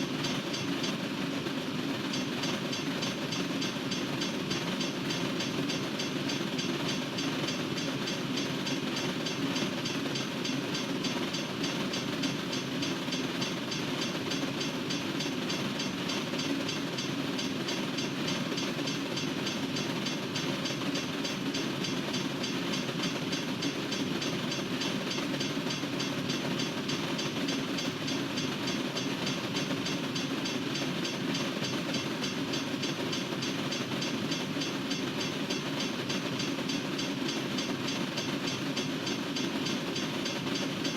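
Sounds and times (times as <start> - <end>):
train cars rolling on rails: 0.0 - 40.9.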